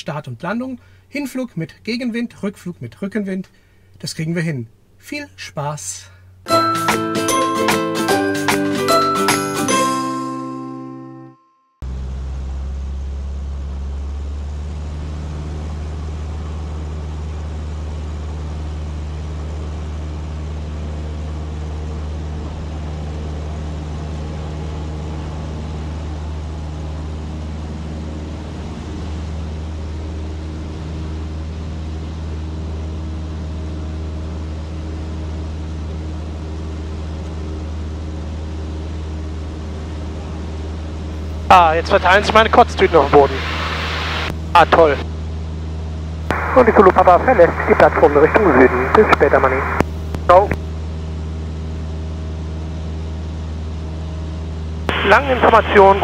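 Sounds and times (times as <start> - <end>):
propeller engine idling: 0.5 - 2.9, 11.8 - 56.0.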